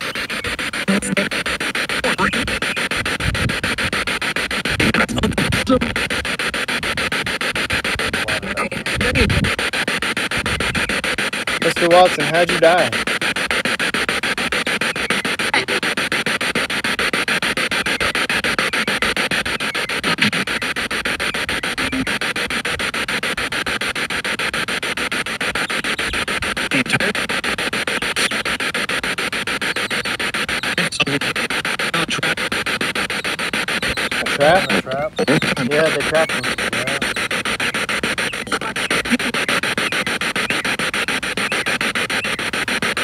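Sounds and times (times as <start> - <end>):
pulsing radio static: 0.0 - 43.0
snatches of broadcast sound: 0.0 - 43.0.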